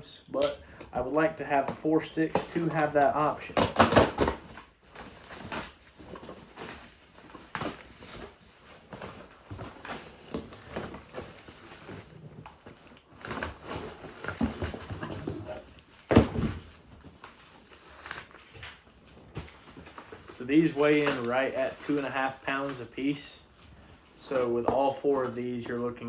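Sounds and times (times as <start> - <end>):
packaging rustling: 0.7 - 26.0.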